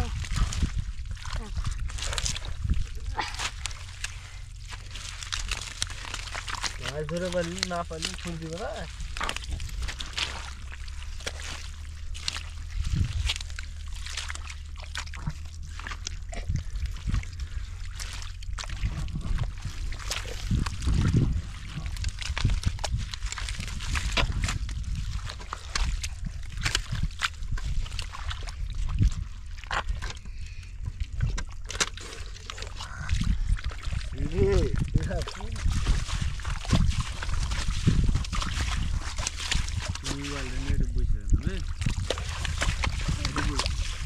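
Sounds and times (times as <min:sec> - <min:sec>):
shallow water sloshing: 0:00.0 - 0:44.0
splashes and knocks: 0:00.0 - 0:44.0.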